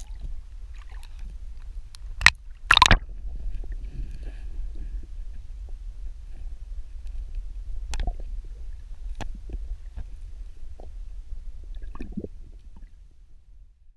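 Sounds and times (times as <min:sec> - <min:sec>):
muffled underwater rumble: 0:00.0 - 0:13.9.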